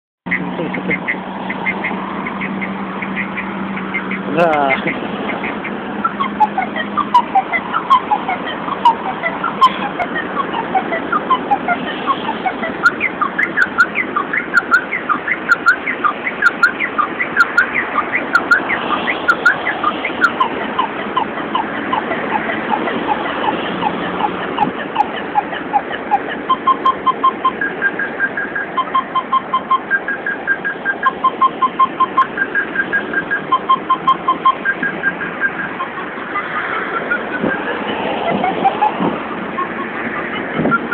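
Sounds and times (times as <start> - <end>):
car alarm electronic tones: 0.3 - 40.9.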